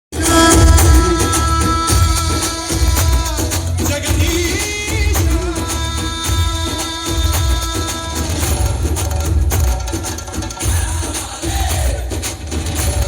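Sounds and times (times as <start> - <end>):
loud music over sound system: 0.1 - 13.0.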